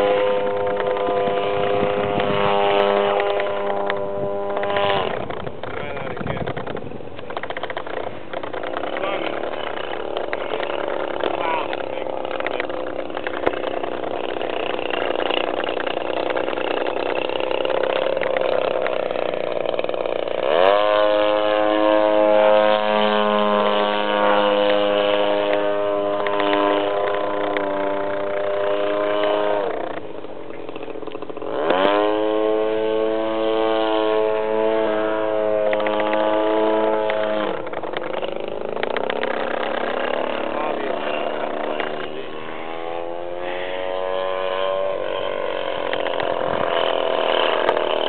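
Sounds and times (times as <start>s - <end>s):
model plane engine buzzing: 0.0s - 48.0s.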